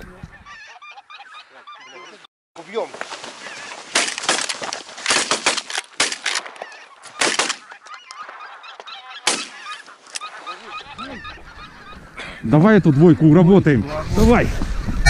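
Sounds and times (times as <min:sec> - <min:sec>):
geese honking: 0:00.0 - 0:13.9.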